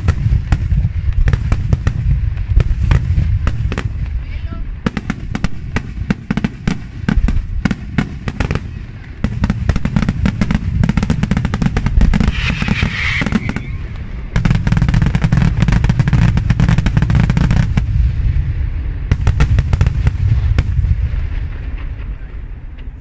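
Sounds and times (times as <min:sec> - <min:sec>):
fireworks bangs and crackles: 0:00.0 - 0:23.0
low rumble: 0:00.0 - 0:23.0.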